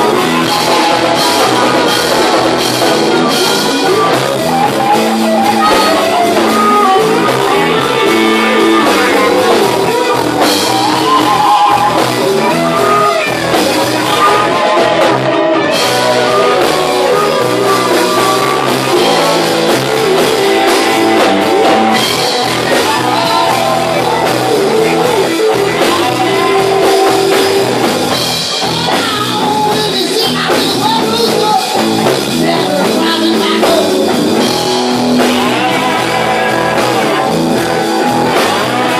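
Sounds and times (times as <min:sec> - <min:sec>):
drums: 0:00.0 - 0:38.9
electric guitars: 0:00.0 - 0:38.9
live blues band playing: 0:00.0 - 0:38.9
person singing: 0:00.0 - 0:38.9.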